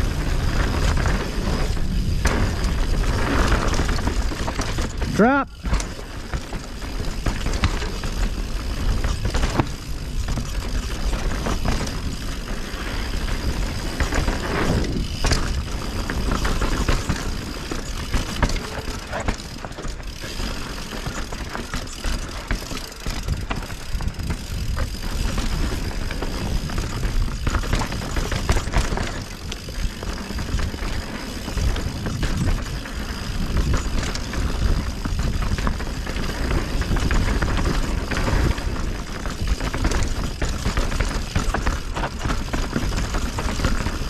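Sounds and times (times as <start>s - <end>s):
bike rattling: 0.0s - 44.0s
bike tyres rolling on dirt: 0.0s - 44.0s
bike knocking on rocks: 0.1s - 44.0s.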